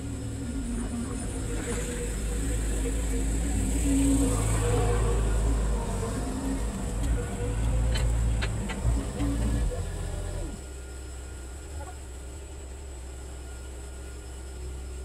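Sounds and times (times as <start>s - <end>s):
forklift engine running: 0.0s - 15.0s
high-pitched whine: 0.0s - 15.0s.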